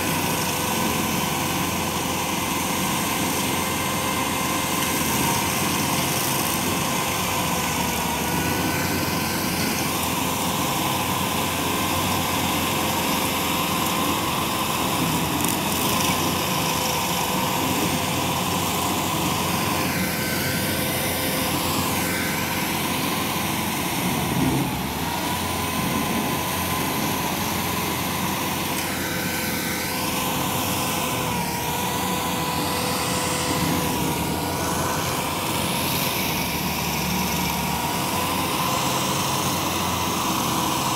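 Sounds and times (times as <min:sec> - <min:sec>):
cutter wheel grinding wood: 0:00.0 - 0:40.9
engine whine: 0:00.0 - 0:40.9.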